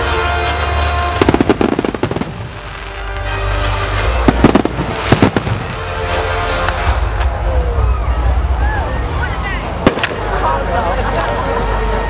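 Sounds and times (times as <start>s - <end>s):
music playing: 0.0s - 12.0s.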